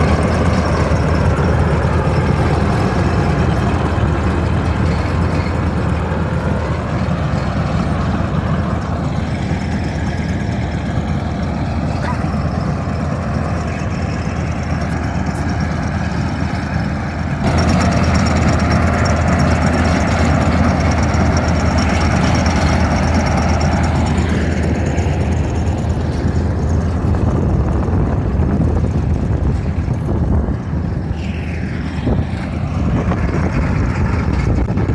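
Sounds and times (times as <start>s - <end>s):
engine hum: 0.0s - 34.9s.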